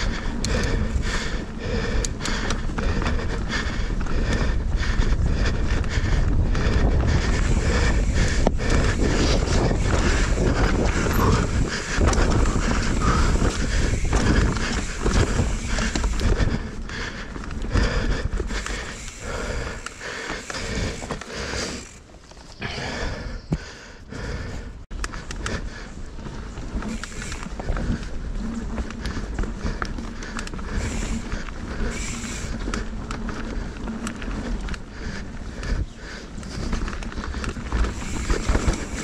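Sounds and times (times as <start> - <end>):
bike chain and frame rattling: 0.0 - 23.4, 24.2 - 39.0
wind buffeting microphone: 0.0 - 39.0.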